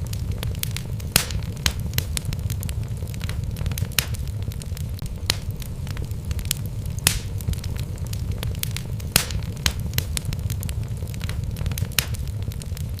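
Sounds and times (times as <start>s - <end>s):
low rumble: 0.0s - 13.0s
wood fire crackling and popping: 0.0s - 13.0s.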